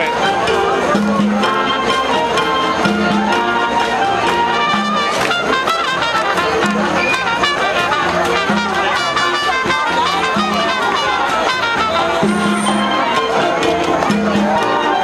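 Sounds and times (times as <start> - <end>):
light percussion: 0.0 - 15.0
street orchestra with brass: 0.0 - 15.0.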